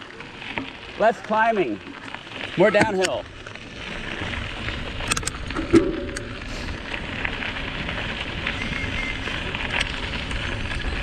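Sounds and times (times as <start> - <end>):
bike rattling: 0.0 - 11.0
bike tyres rolling on dirt: 0.0 - 11.0.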